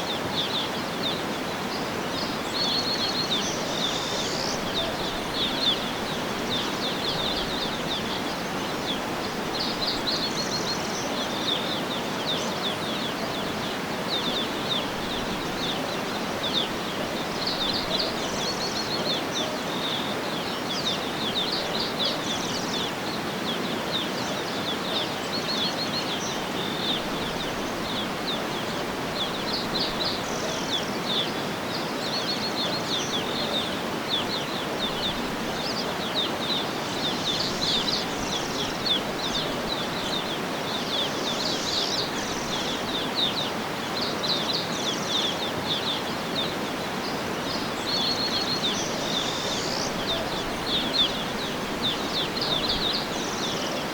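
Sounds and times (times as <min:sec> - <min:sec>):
small birds chirping and trilling: 0:00.0 - 0:53.9.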